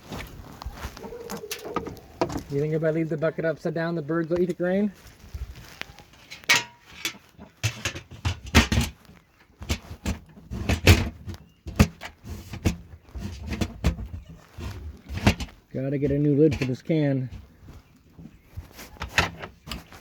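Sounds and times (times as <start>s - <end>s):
grain bucket clunking and rattling: 0.0s - 3.5s, 5.5s - 20.0s.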